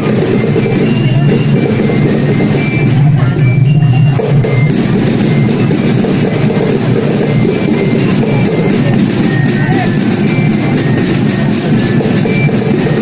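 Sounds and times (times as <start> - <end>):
music with drumming and percussion: 0.0 - 13.0.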